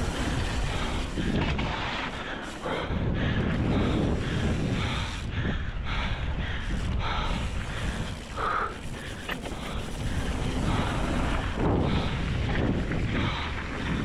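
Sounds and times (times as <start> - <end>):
tyres rumbling on dirt: 0.0 - 5.2, 6.6 - 14.0
bike rattling: 0.0 - 14.0
wind buffeting microphone: 0.0 - 14.0.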